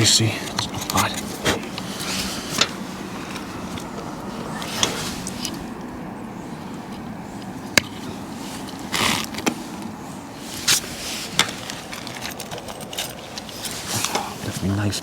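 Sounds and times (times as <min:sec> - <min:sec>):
hands handling electrical cable: 0:00.0 - 0:05.9, 0:06.8 - 0:14.8
low background noise: 0:00.0 - 0:15.0.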